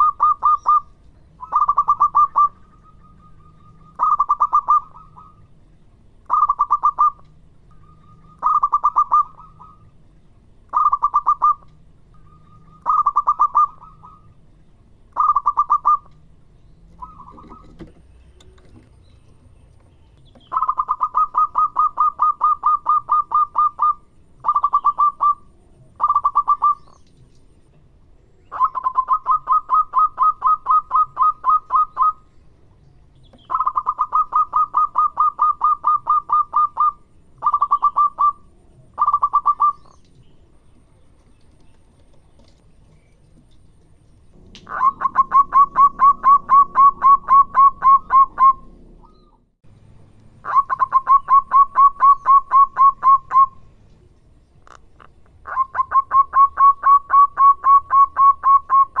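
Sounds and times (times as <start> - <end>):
dove cooing song: 0.0 - 5.6, 6.2 - 10.0, 10.7 - 14.5, 15.1 - 19.0, 20.3 - 27.6, 28.4 - 32.3, 33.2 - 42.6, 44.3 - 49.5, 50.4 - 53.8, 54.6 - 59.0.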